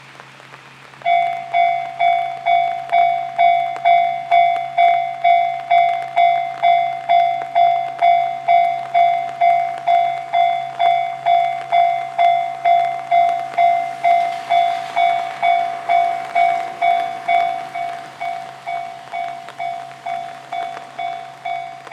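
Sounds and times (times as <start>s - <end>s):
level crossing bell clanging: 1.1s - 21.9s.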